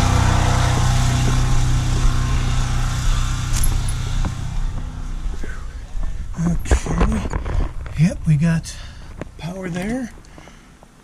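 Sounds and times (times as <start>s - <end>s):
portable generator humming: 0.0s - 10.8s.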